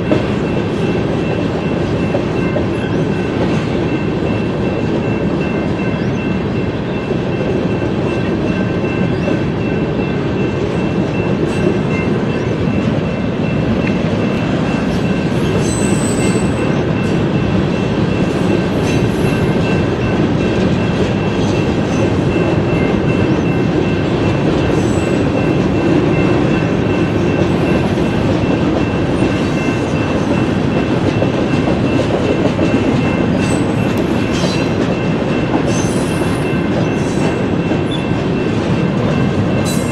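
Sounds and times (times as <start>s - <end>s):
train wheels rumbling and rattling: 0.0s - 39.9s.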